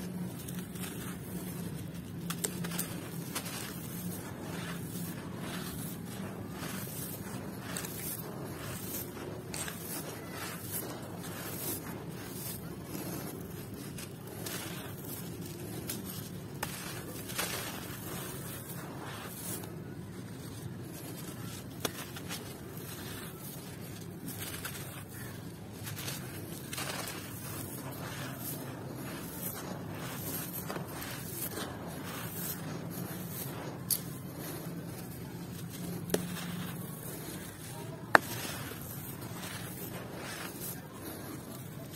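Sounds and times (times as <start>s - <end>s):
hands scooping gritty dust: 0.0s - 41.9s.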